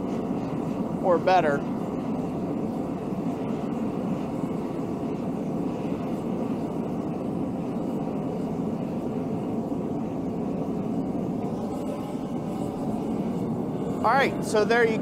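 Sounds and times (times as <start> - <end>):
gas burner flame rushing: 0.0 - 15.0.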